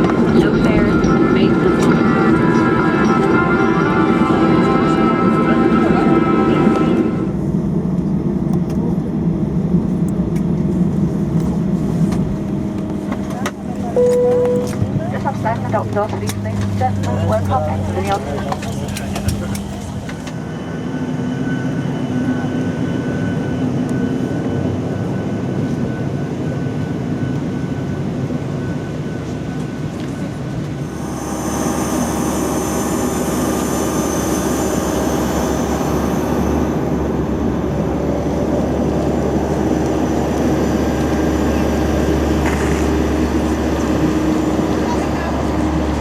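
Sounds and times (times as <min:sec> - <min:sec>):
high whine: 0:00.0 - 0:07.6, 0:13.9 - 0:25.8, 0:26.7 - 0:46.0
jet engine cabin noise: 0:00.0 - 0:46.0.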